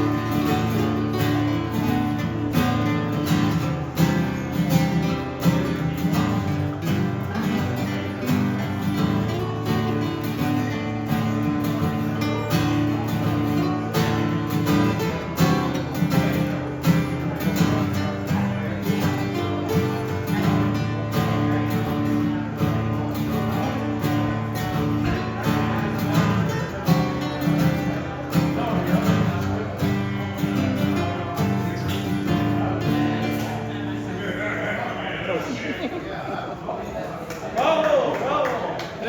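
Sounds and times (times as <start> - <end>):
acoustic guitar strumming: 0.0 - 35.6.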